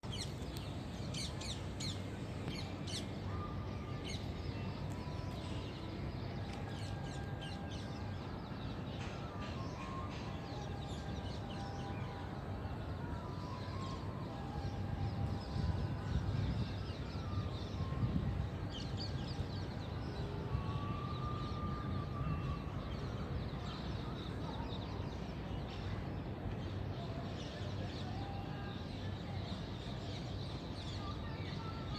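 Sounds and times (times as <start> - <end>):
low background noise: 0.0 - 31.9.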